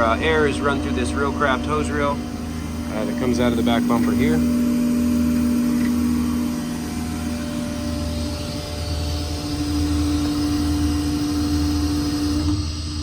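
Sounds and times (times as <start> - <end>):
air compressor humming: 0.0 - 13.0
diesel engine rumble: 0.0 - 13.0.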